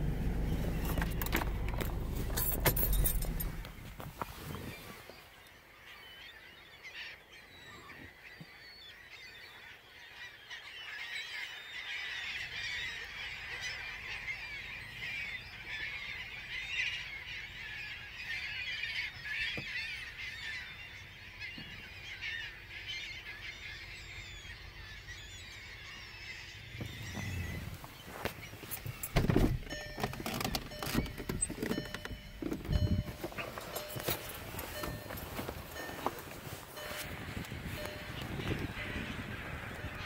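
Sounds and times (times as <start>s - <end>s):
flock of gulls calling: 0.0s - 40.0s.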